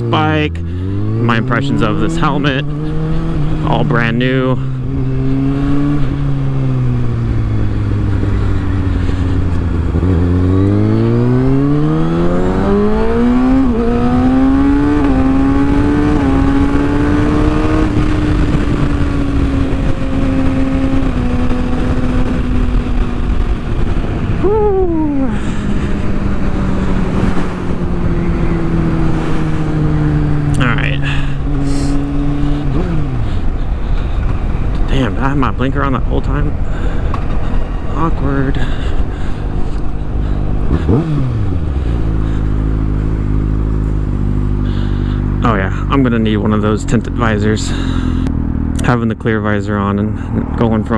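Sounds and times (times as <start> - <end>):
motorcycle engine accelerating: 0.0 - 50.9
wind noise: 0.8 - 45.4.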